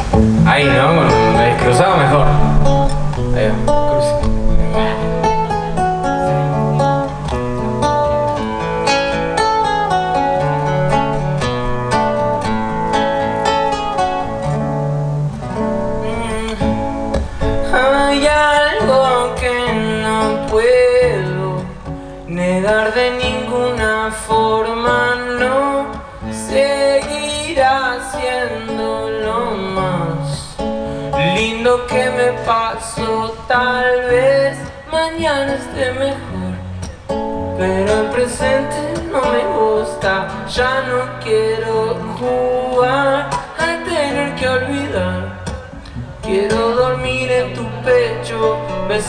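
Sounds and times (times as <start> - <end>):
acoustic guitar playing: 0.0 - 49.0
man singing: 0.4 - 7.1, 15.9 - 49.0.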